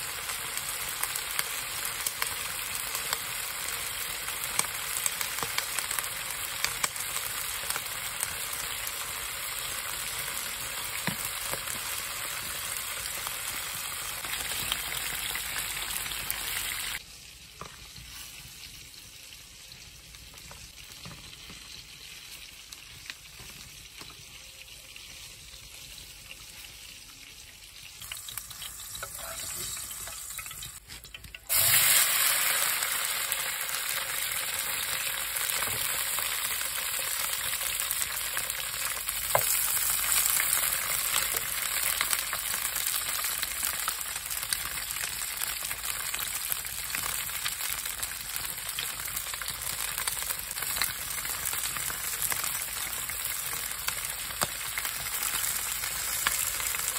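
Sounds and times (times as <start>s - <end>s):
peppers sizzling in a pan: 0.0s - 56.9s.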